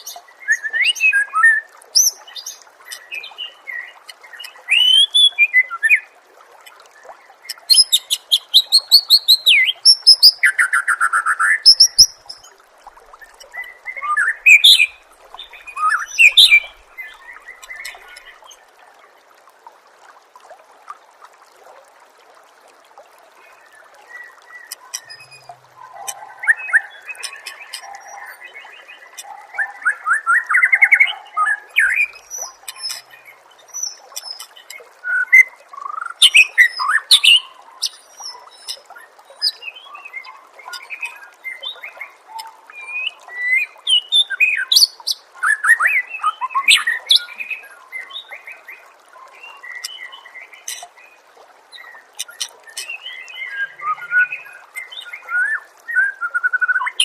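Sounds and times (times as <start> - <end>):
songbird singing whistles and trills: 0.0 - 6.1, 7.5 - 12.5, 13.2 - 18.3, 24.2 - 50.8, 51.8 - 57.0.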